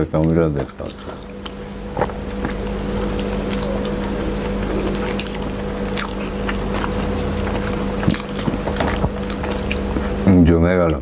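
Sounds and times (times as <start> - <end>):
people chewing crispy snacks: 0.1 - 11.0.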